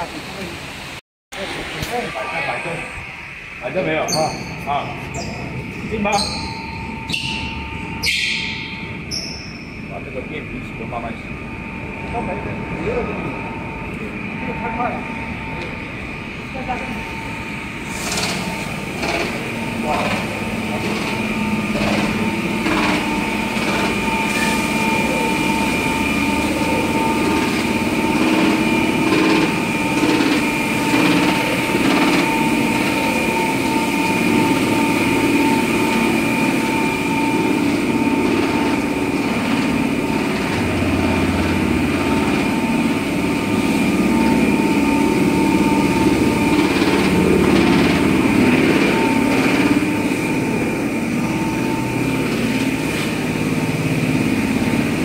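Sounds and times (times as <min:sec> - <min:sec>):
industrial machinery whining: 0:00.0 - 0:55.0.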